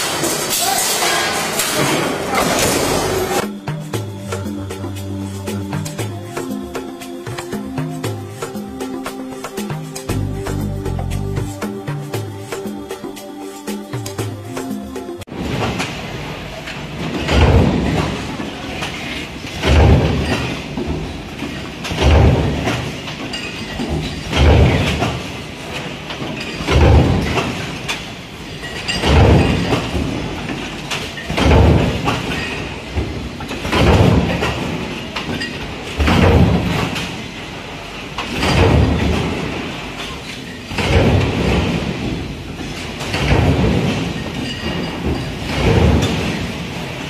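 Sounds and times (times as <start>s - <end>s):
steady machine clatter: 0.0s - 47.0s.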